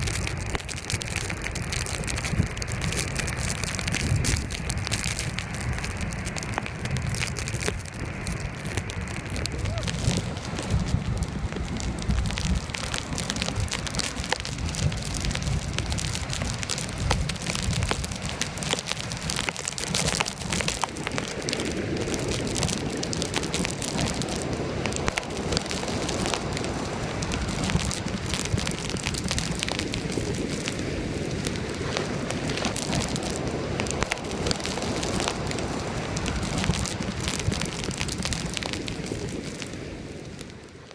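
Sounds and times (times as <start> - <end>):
crackling hiss of sea spray: 0.0 - 40.9
strong wind buffeting microphone: 0.0 - 40.9.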